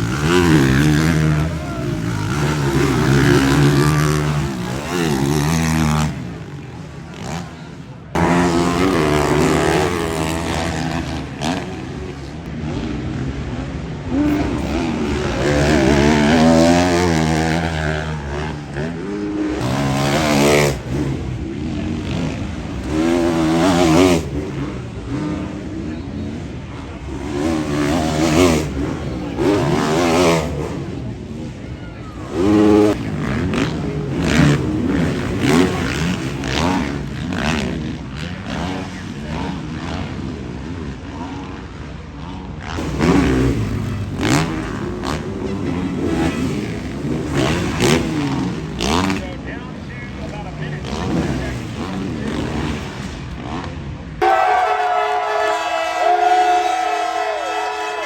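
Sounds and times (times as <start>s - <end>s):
motocross bikes revving: 0.0s - 58.0s.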